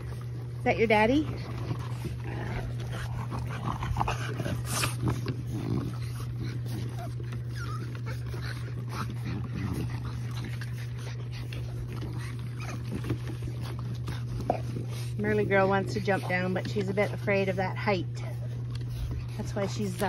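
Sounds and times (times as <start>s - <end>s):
dogs yipping: 0.0s - 20.0s
puppies whimpering: 0.0s - 20.0s
steady low hum: 0.0s - 20.0s.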